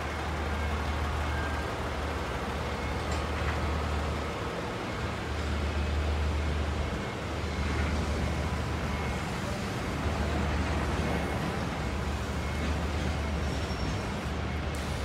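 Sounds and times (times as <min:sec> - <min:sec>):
diesel locomotive drone: 0:00.0 - 0:15.0
freight train rolling on rails: 0:00.0 - 0:15.0.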